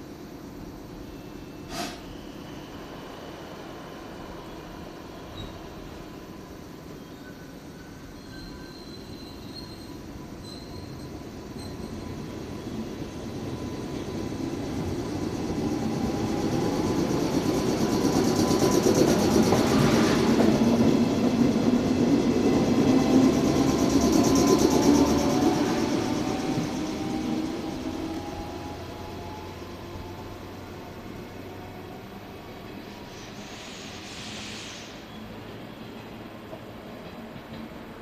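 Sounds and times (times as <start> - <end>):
wheels rumbling on rail: 0.8 - 38.0.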